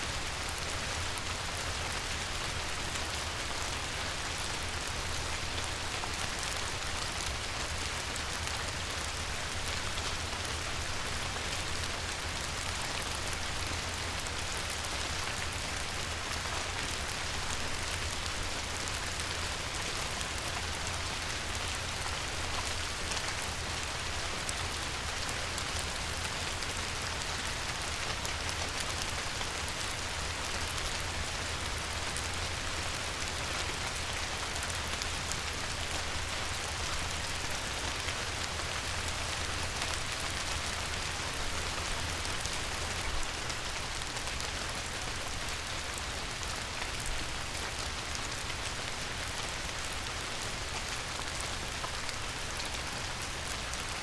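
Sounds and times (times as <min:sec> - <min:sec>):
light rain on a river: 0:00.0 - 0:54.0.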